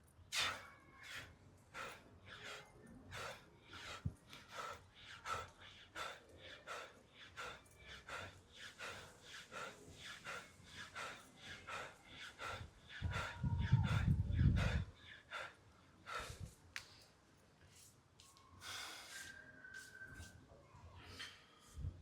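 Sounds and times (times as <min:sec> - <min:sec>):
man breathing hard: 0:00.3 - 0:17.1, 0:18.6 - 0:19.9.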